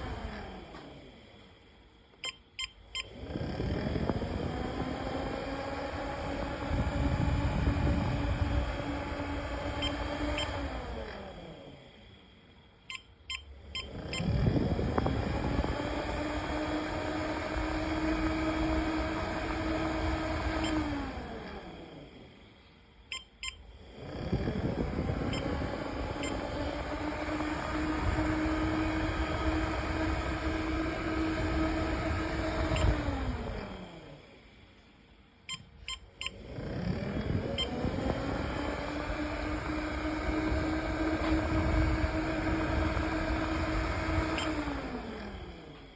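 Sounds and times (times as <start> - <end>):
electric siren winding up and down: 0.0 - 1.2, 2.7 - 11.9, 13.0 - 22.3, 23.2 - 34.4, 35.6 - 45.9.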